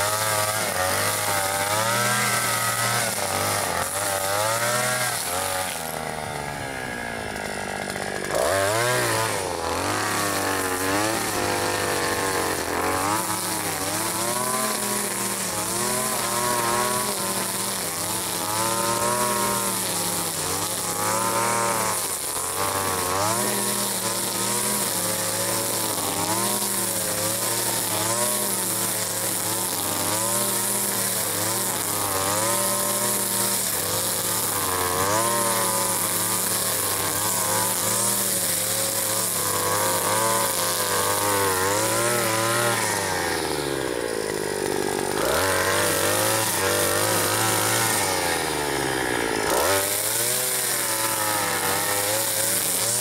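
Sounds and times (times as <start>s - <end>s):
small petrol engine revving: 0.0s - 53.0s.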